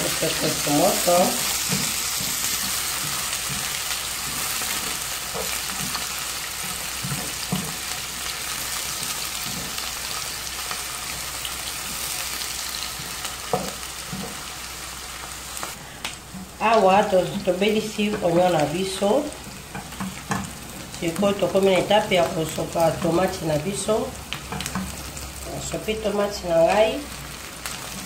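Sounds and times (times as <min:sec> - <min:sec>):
onions sizzling in a frying pan: 0:00.0 - 0:28.0.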